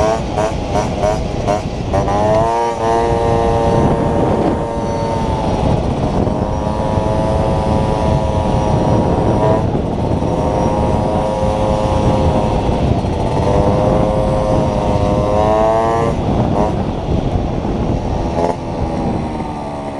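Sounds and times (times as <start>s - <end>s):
small motorcycle engine running: 0.0s - 19.9s
wind noise on microphone: 0.0s - 19.9s.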